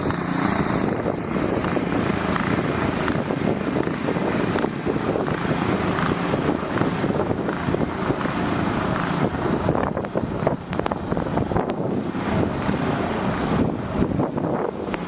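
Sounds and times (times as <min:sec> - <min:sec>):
short crackles: 0:00.0 - 0:15.0
wind buffeting microphone: 0:00.0 - 0:15.0.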